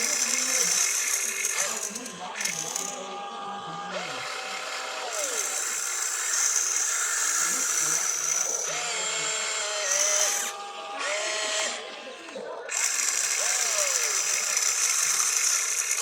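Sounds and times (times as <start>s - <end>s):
electric toy motor whirring: 0.0s - 16.0s.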